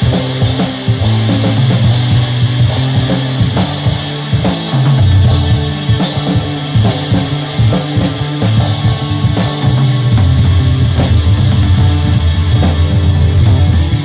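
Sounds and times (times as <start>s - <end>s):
drum kit beat: 0.0s - 14.0s
low held notes: 0.0s - 14.0s.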